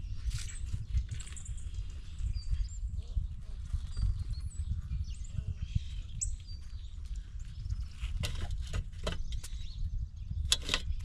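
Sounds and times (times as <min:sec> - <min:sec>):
bird chirp: 0:00.0 - 0:11.0.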